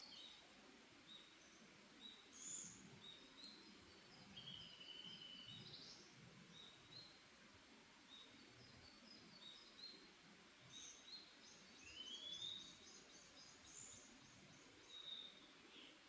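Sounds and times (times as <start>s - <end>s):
forest birdsong: 0.0s - 7.4s, 8.0s - 16.0s
soft background hiss: 0.0s - 16.0s.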